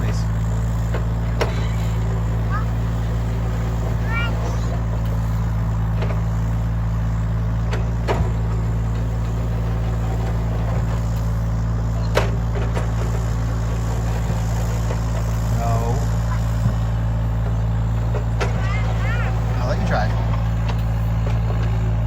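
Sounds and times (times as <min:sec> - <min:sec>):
heavy equipment engine running: 0:00.0 - 0:22.0.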